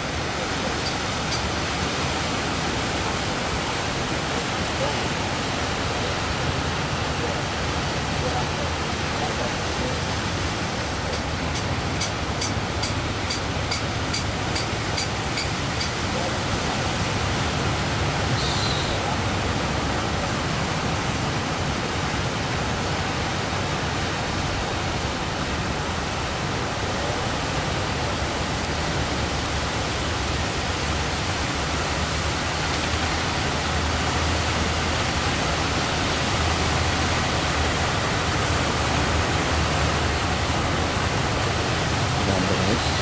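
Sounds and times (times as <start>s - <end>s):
sea waves breaking: 0.0s - 43.0s.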